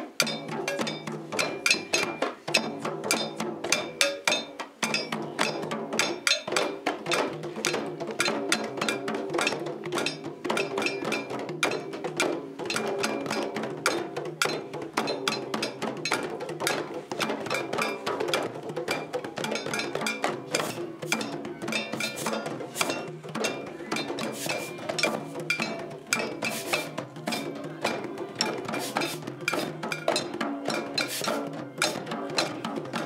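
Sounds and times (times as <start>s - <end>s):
hand drums playing fast rhythm: 0.0s - 33.0s
hand percussion struck with sticks: 0.0s - 33.0s.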